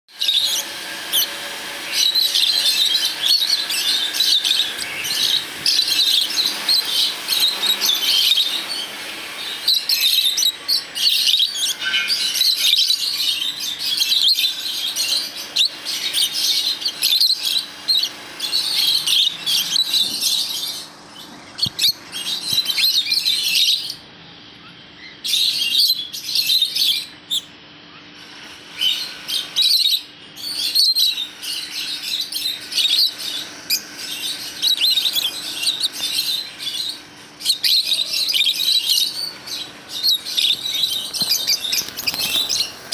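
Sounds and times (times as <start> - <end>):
parrots chattering and chirping: 0.2 - 42.9.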